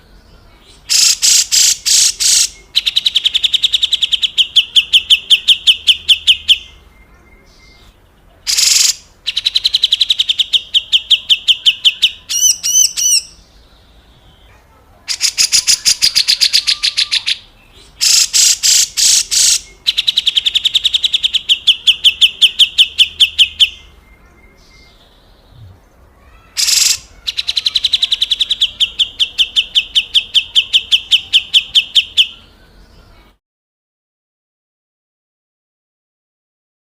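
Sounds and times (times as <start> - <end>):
bulbul harsh rasping calls: 0.6 - 24.0, 24.6 - 33.2.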